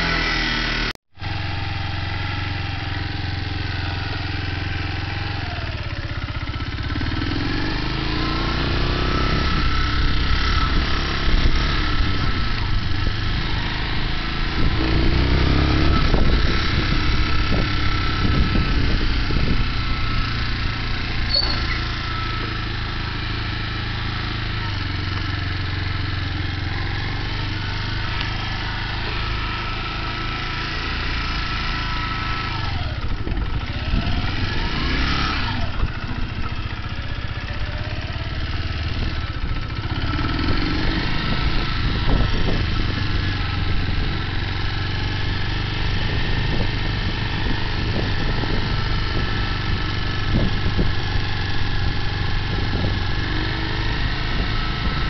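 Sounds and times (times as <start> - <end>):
motorcycle engine at low speed: 0.0 - 55.0.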